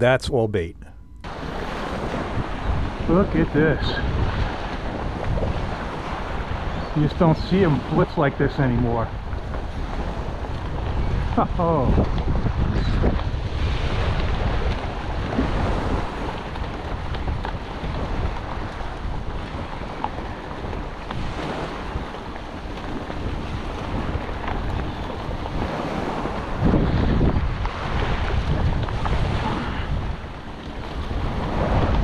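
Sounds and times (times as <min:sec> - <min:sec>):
wind buffeting microphone: 0:00.0 - 0:32.0
surf washing on shoreline: 0:01.3 - 0:32.0.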